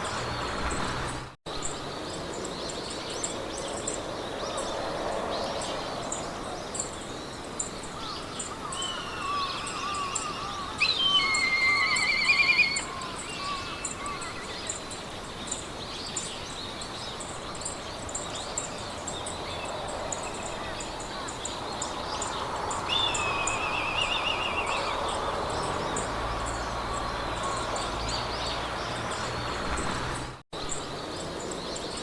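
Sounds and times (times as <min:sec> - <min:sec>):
birds singing: 0:00.0 - 0:32.0.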